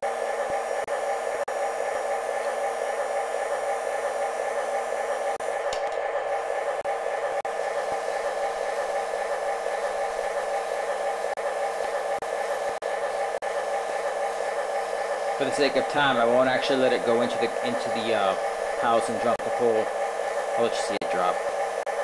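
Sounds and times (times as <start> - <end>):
model train electric whir: 0.0 - 22.0.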